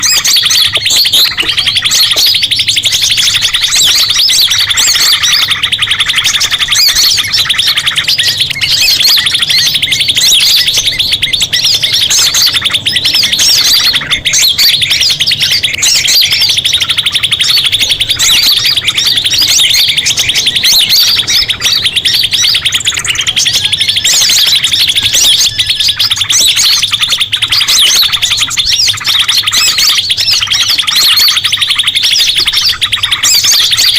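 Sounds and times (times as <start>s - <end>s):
rapid high bird trill: 0.0s - 33.9s
sharp bird chirps: 0.0s - 33.9s.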